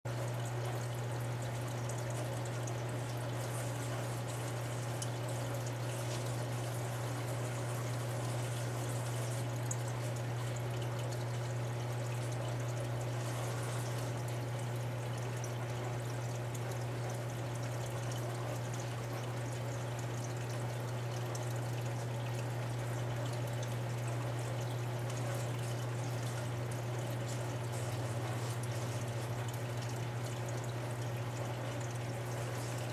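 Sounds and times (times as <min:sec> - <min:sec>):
water trickling in aquarium filter: 0:00.1 - 0:32.9.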